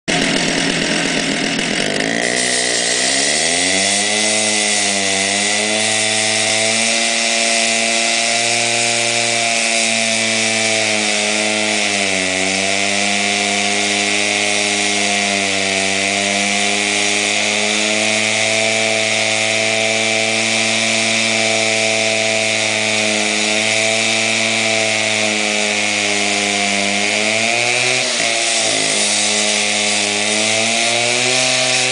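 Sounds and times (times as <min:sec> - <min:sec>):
blade grinding concrete: 0:00.0 - 0:31.9
concrete saw engine revving: 0:00.0 - 0:31.9.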